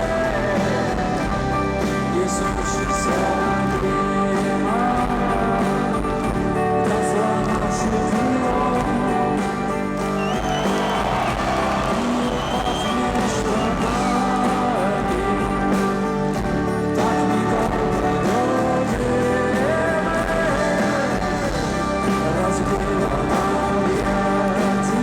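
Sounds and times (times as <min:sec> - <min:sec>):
rock band playing instrumental: 0:00.0 - 0:25.0.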